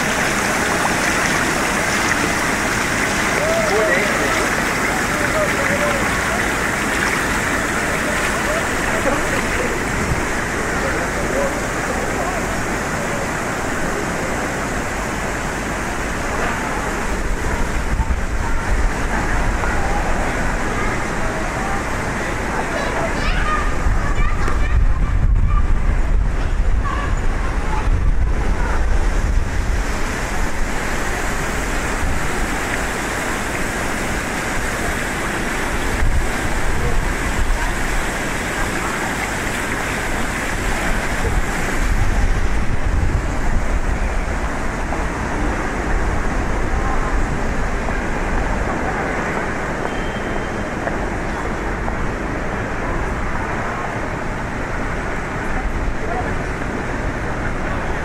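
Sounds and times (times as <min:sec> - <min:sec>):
low traffic rumble: 0:00.0 - 0:58.0.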